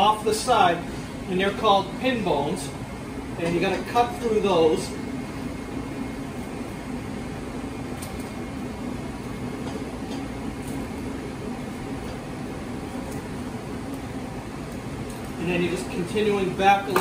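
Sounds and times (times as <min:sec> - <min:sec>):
kitchen machinery hum: 0:00.0 - 0:17.0.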